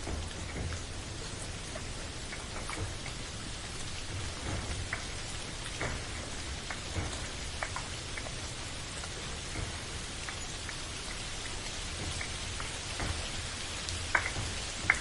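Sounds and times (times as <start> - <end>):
drops ticking on a surface: 0.0 - 15.0
rain pattering: 0.0 - 15.0.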